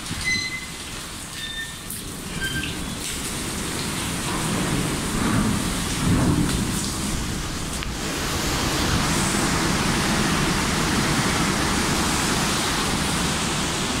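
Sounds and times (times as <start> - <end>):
sea water rushing along hull: 0.0 - 14.0.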